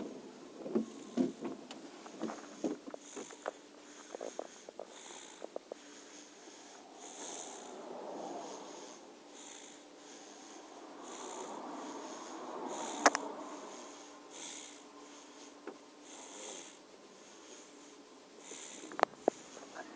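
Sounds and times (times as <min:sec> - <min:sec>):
baby snoring: 0:00.8 - 0:01.4, 0:02.1 - 0:19.9.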